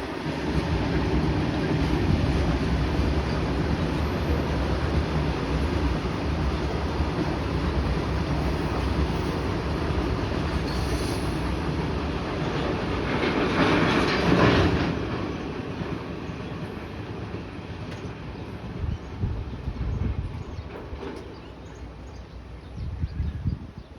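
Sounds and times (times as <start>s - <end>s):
freight train rolling on track: 0.0s - 23.9s.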